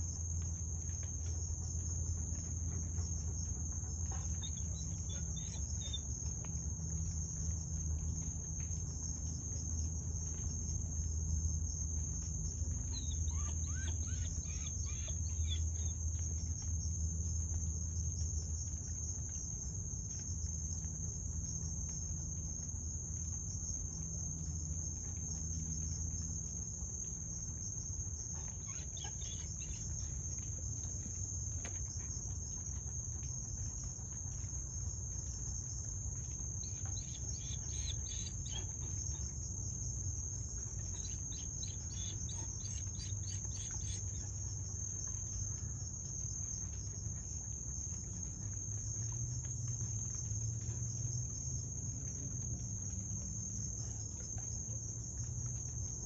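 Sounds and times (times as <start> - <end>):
crickets trilling: 0.0 - 56.0
insects chirping rapidly: 0.0 - 56.0
low background rumble: 0.0 - 56.0.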